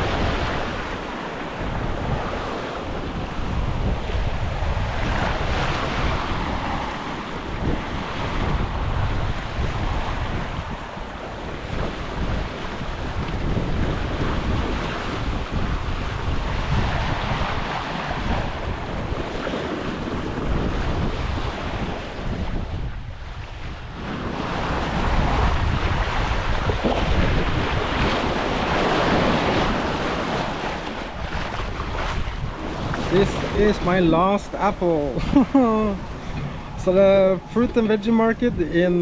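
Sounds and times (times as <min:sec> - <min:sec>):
waves washing around boat: 0:00.0 - 0:39.0
wind buffeting microphone: 0:00.0 - 0:39.0.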